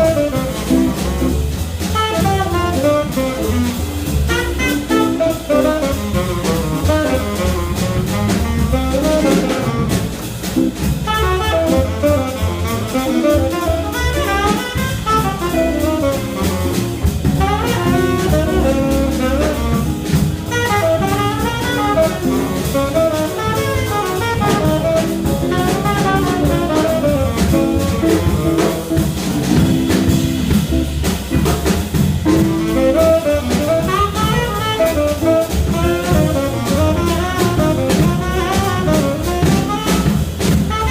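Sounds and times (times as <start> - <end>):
drum kit: 0.0 - 40.9
jazz band playing: 0.0 - 40.9
saxophone runs: 0.0 - 40.9.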